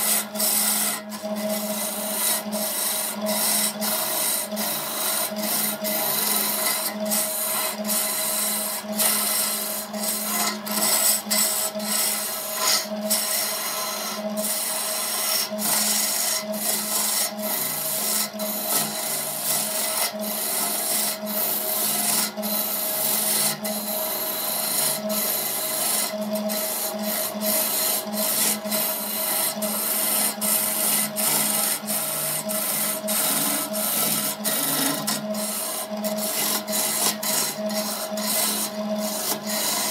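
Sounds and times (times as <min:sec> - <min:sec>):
chisel rasping on spinning wood: 0:00.0 - 0:39.9
lathe motor hum: 0:00.0 - 0:39.9.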